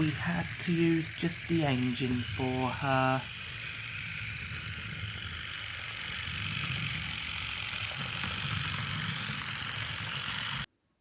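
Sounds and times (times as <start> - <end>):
toy train whirring and rattling: 0.0 - 10.7.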